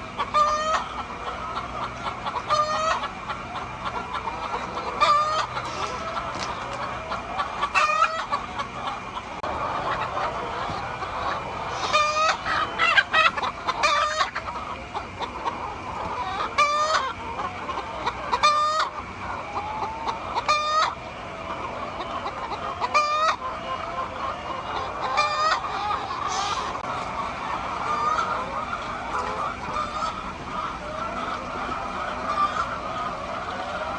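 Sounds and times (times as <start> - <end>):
chicken squawks: 0.0 - 33.9
chickens clucking: 0.0 - 33.9.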